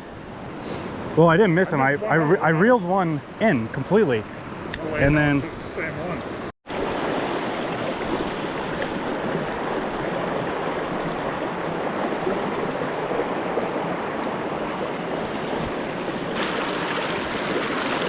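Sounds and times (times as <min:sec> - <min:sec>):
fast creek rushing: 0:00.5 - 0:18.0.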